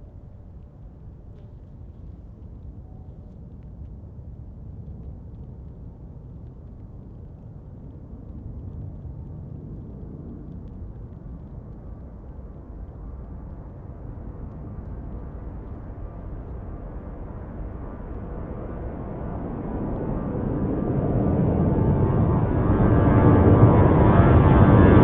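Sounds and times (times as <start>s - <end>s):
jet engines at takeoff: 4.6s - 25.0s.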